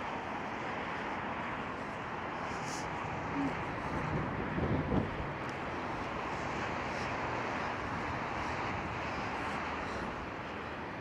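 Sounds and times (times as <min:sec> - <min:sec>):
strong wind blowing: 0:02.0 - 0:11.0.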